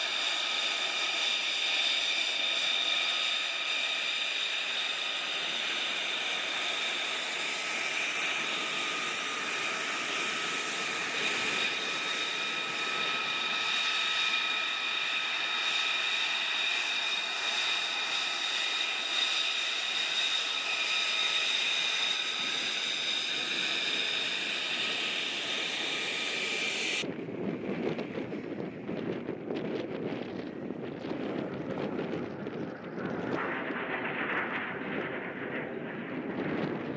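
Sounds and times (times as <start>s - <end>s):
jet engine whine and roar: 0.0s - 36.9s.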